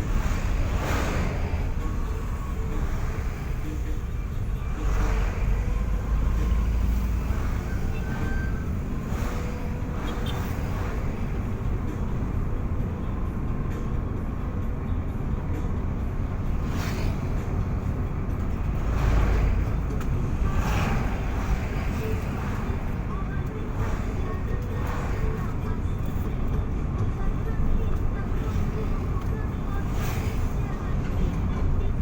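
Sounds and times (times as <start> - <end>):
vehicle engine and road noise: 0.0 - 32.0.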